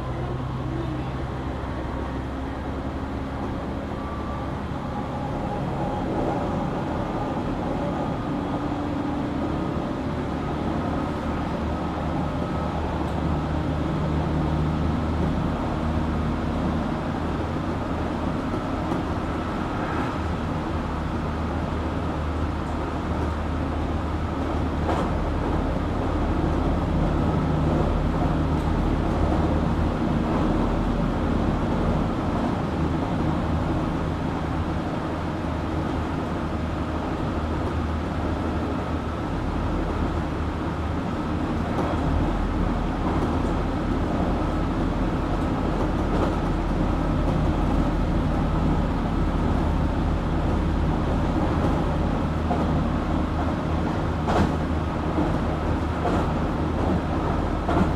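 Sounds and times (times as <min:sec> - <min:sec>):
train motor and gear hum: 0:00.0 - 0:57.9
train wheels on rail: 0:00.1 - 0:57.9.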